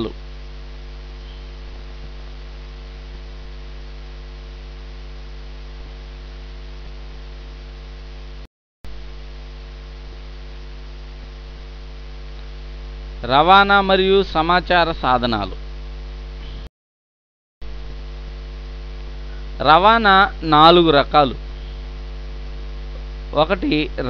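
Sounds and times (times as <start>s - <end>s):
electrical mains hum: 0.0s - 16.7s, 17.6s - 24.0s.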